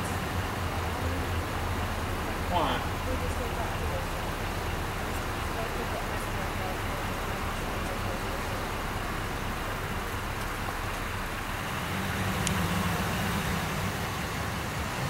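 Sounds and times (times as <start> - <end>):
pickup truck engine approaching: 0.0 - 15.0
road vehicle rumble: 0.0 - 15.0.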